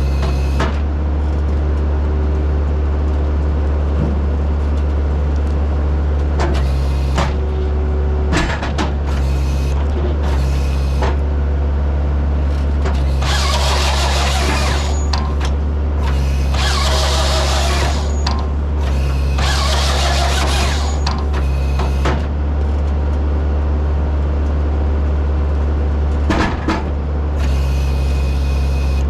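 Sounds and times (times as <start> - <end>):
diesel engine under load: 0.0 - 29.0.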